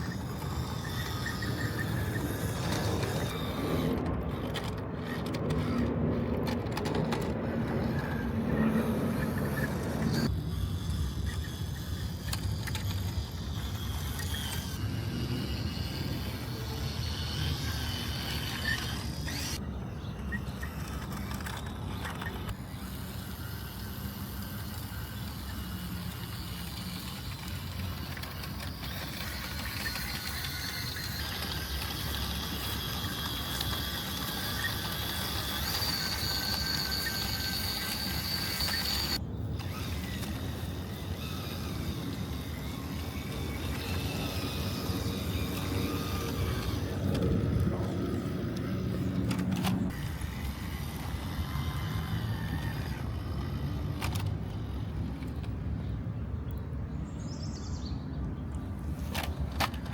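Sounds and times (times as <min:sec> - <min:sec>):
toy truck motor whining: 0:00.0 - 0:55.7, 0:58.7 - 0:59.9.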